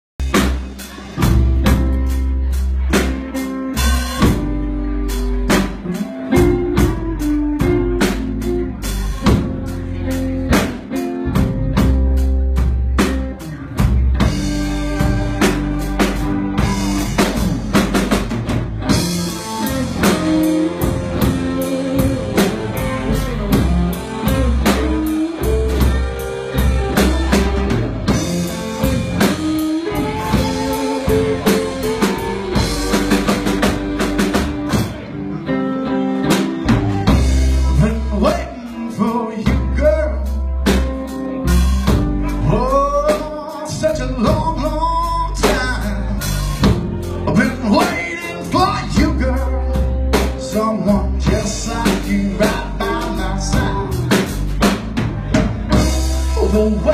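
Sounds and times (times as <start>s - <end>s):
bass guitar: 0.1s - 56.9s
drum kit beat: 0.2s - 56.9s
electric guitars: 0.2s - 56.9s.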